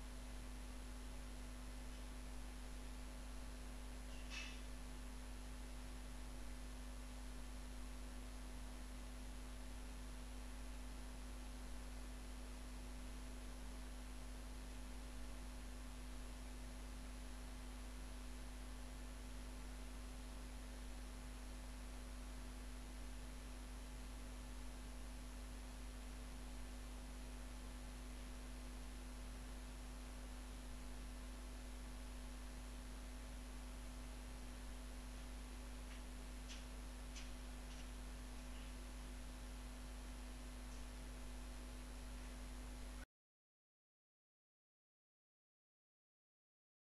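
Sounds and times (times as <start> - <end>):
electrical hum: 0.0 - 43.1.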